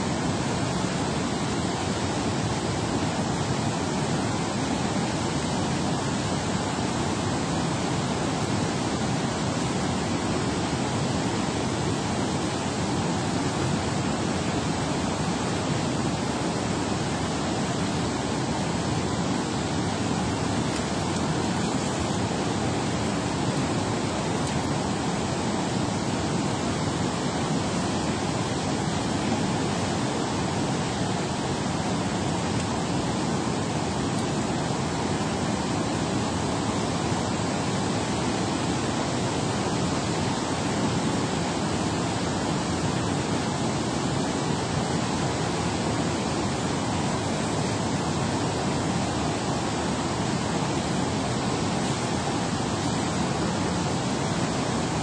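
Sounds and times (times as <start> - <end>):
water rushing from spillway: 0.0 - 55.0.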